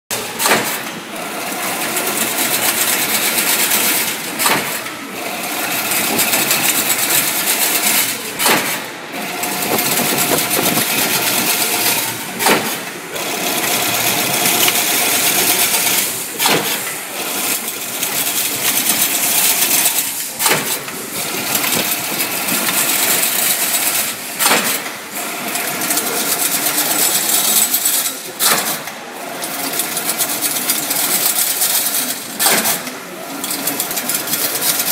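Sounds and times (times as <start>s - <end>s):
sharp machine knock: 0.1s - 1.0s, 1.8s - 29.0s, 31.6s - 32.9s
metallic clatter of weaving machine: 0.1s - 34.9s.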